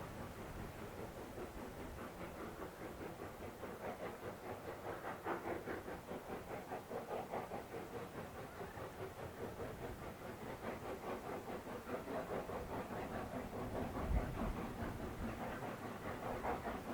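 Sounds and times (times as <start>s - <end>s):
steam locomotive beats: 0.0s - 16.9s.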